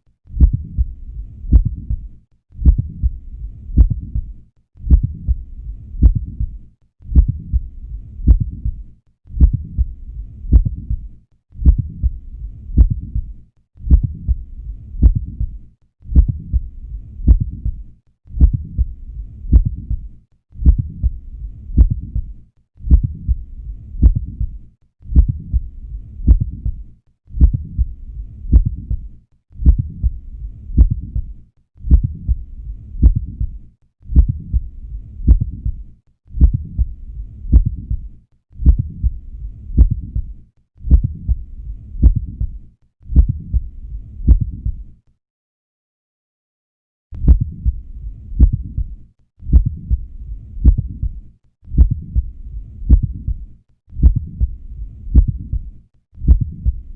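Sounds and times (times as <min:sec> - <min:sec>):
heart sounds through stethoscope: 0:00.3 - 0:44.9, 0:47.2 - 0:56.9.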